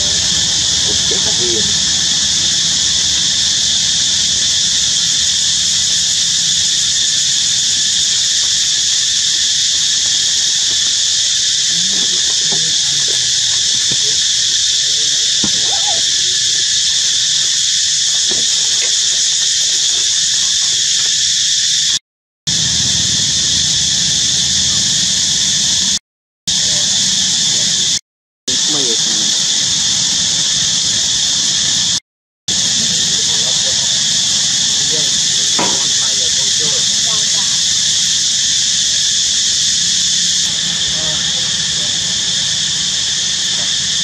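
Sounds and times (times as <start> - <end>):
high-pitched hissing drone: 0.0 - 44.0.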